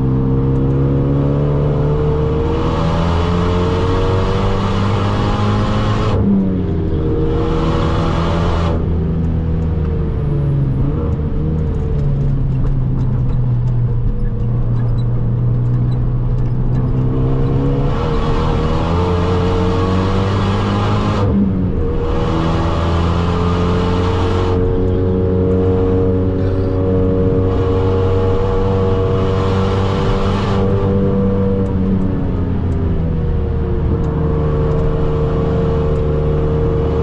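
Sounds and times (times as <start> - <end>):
car engine revving from inside cabin: 0.0 - 12.5, 14.5 - 37.0.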